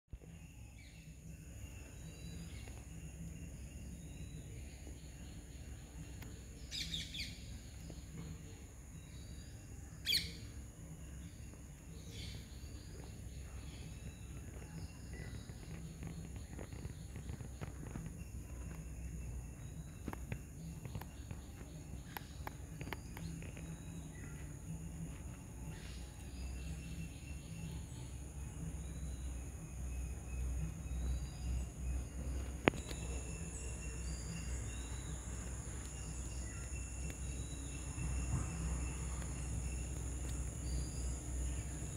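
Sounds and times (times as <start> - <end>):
faint bird chirps: 0.2 - 41.9
high insect drone: 0.2 - 41.9.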